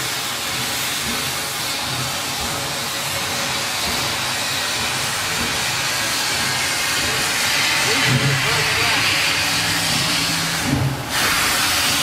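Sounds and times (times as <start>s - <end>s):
steam locomotive hissing steam: 0.0s - 12.0s.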